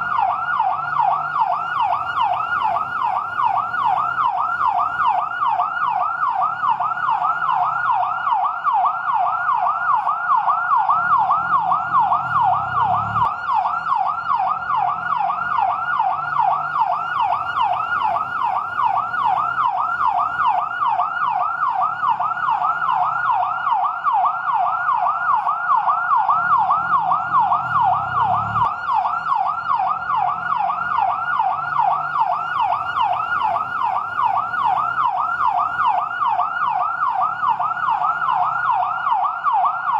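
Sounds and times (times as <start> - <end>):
siren yelping: 0.0 - 39.9.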